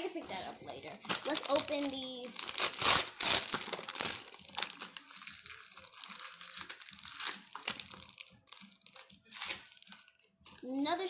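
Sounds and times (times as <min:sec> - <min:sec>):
packaging torn and crinkled by hand: 0:01.1 - 0:10.1.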